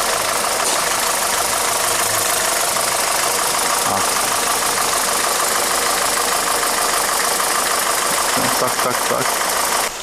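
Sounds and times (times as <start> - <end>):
car engine idling with knocking: 0.0 - 10.0.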